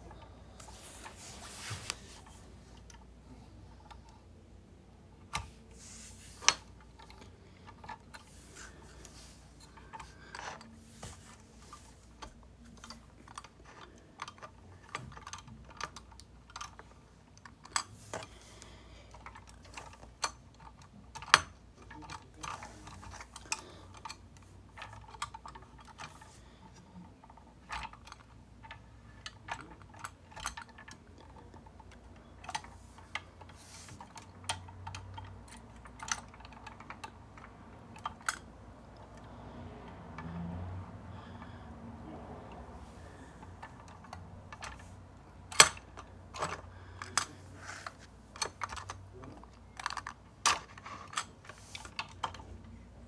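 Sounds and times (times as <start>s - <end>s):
toy truck clicking and clacking: 6.3s - 39.3s, 42.4s - 52.7s.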